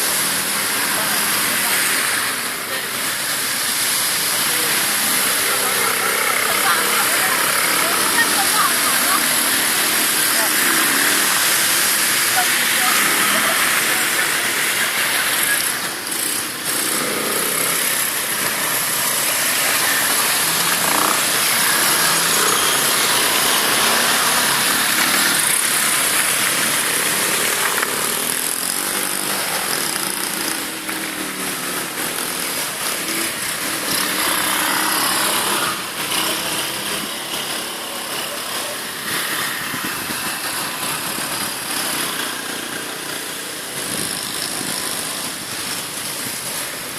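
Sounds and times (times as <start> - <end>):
atv engine running: 0.0 - 46.9
steady rushing noise: 0.0 - 46.9.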